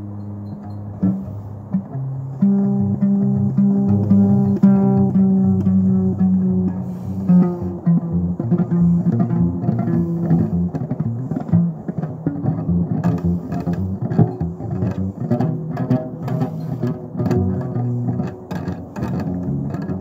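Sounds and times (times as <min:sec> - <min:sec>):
upright bass plucked: 0:00.0 - 0:20.0.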